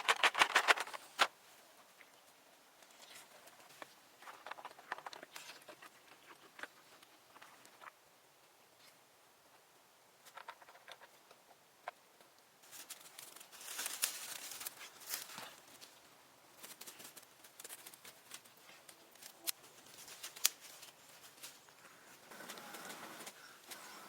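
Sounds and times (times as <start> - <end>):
dry wood and leaves crackling: 0.0 - 8.0, 10.2 - 24.0.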